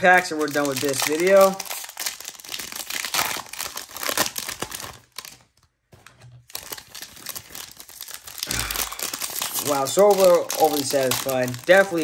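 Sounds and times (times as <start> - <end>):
card pack wrappers crinkling: 0.0 - 12.0.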